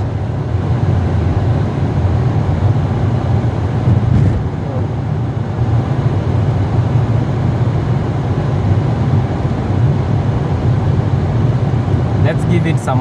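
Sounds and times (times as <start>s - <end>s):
car cabin road and engine rumble: 0.0s - 13.0s.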